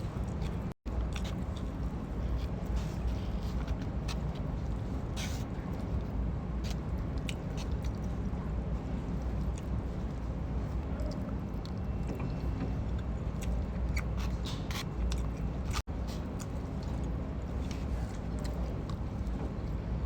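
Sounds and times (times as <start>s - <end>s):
person chewing food: 0.0s - 19.9s
steady low hum: 0.0s - 20.0s.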